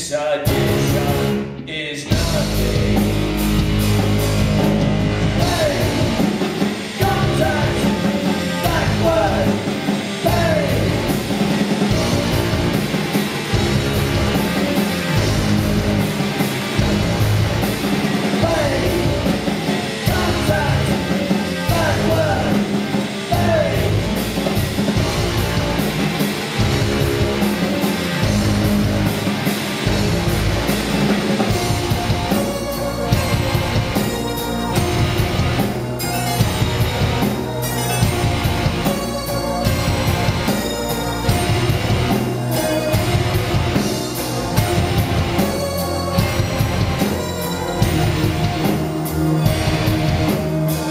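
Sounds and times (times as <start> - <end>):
live rock band playing loud: 0.1 - 50.9.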